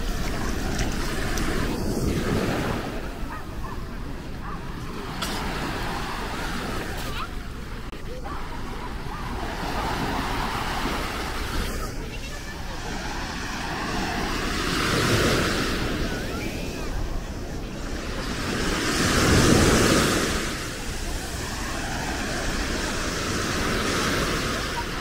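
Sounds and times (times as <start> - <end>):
small waves washing on sand: 0.0 - 25.0.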